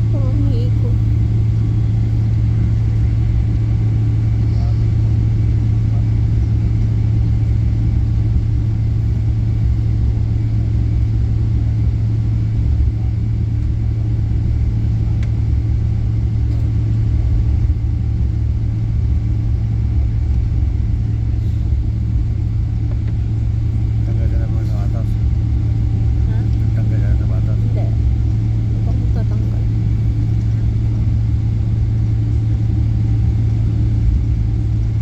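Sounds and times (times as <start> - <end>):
constant hum: 0.0 - 35.0
jet engine cabin rumble: 0.0 - 35.0.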